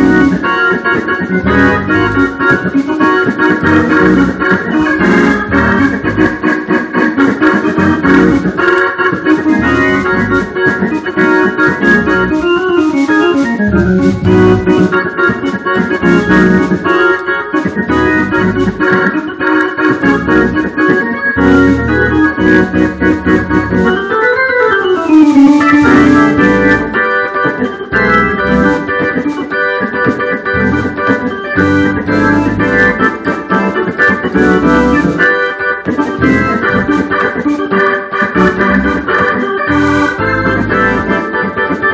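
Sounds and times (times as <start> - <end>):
organ playing gospel song: 0.0 - 41.9.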